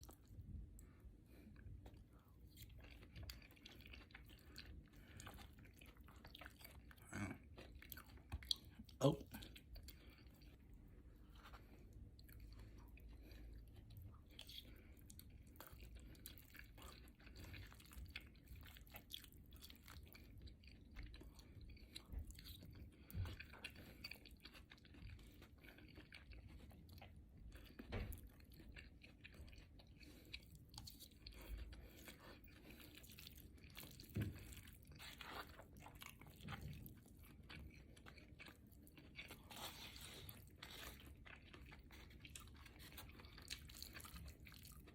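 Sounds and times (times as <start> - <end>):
person chewing wetly: 0.0 - 44.9.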